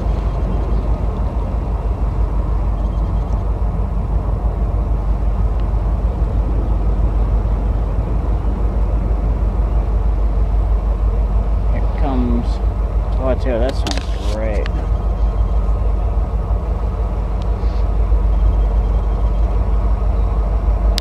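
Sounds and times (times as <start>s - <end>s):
diesel locomotive engine rumbling: 0.0s - 21.0s.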